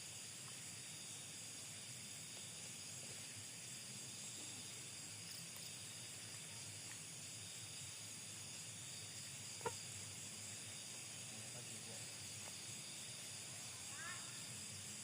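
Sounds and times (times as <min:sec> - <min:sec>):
low hiss: 0:00.0 - 0:15.0
night insects chirring: 0:00.0 - 0:15.0.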